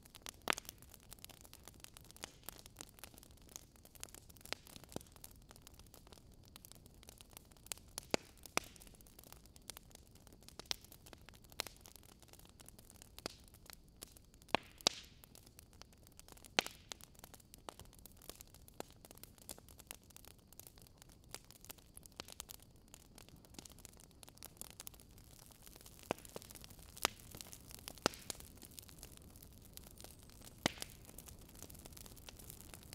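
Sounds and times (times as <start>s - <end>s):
faint steady hiss: 0.0s - 32.9s
fire crackling in a fireplace: 0.0s - 32.9s.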